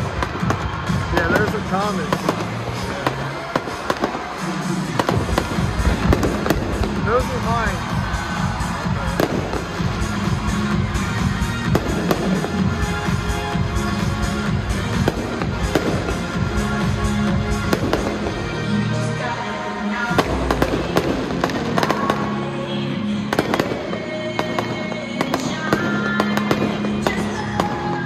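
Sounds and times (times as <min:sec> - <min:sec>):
fireworks bangs and crackles: 0:00.0 - 0:18.8, 0:20.1 - 0:22.6, 0:23.2 - 0:28.0
loud music: 0:00.0 - 0:28.0.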